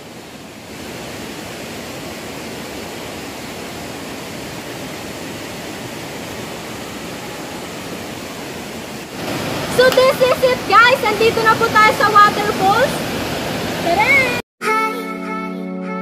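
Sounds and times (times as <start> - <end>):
waterfall rushing: 0.0 - 14.4.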